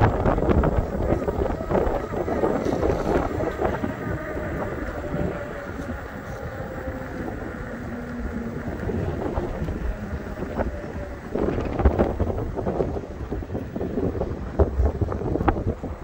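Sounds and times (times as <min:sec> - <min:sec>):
road rumble: 0:00.0 - 0:16.0
wind buffeting microphone: 0:00.0 - 0:16.0.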